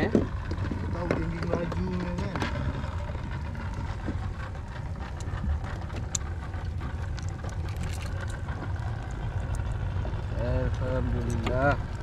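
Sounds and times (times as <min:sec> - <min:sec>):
motorboat engine rumbling: 0:00.0 - 0:12.0
water noise: 0:00.0 - 0:12.0.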